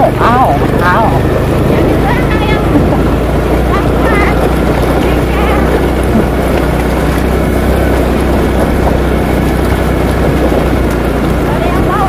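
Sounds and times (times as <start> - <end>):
scooter engine running: 0.0 - 12.0
wind noise on microphone: 0.0 - 12.0.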